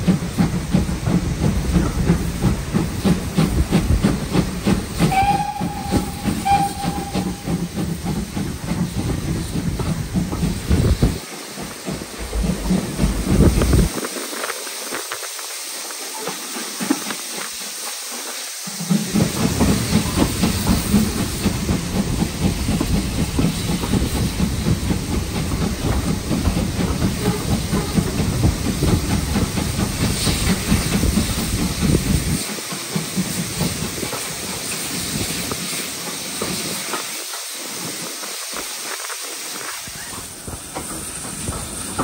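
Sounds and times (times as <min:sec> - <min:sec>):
low rumble of railway movement: 0:00.0 - 0:42.0
steam locomotive hissing steam: 0:00.0 - 0:42.0.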